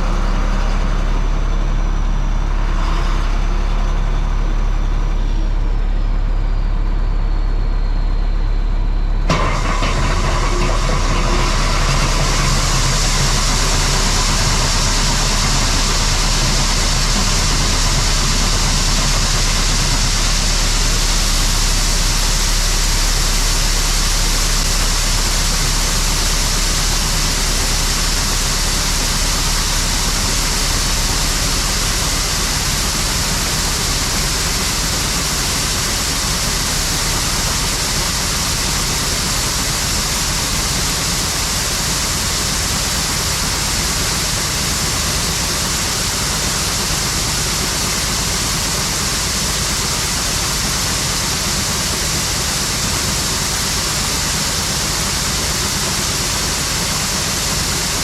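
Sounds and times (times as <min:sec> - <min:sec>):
farm vehicle engine drone: 0:00.0 - 0:58.0
loud rushing hiss: 0:09.3 - 0:58.0.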